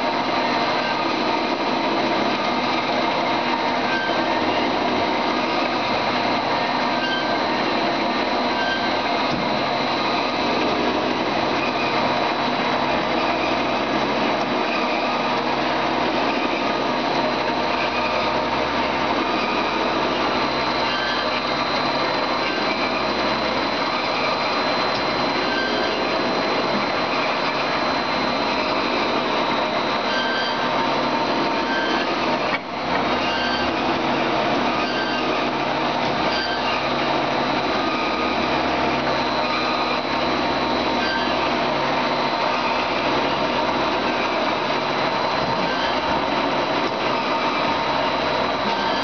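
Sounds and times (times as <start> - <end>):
metal-cutting bandsaw running: 0.0 - 49.0.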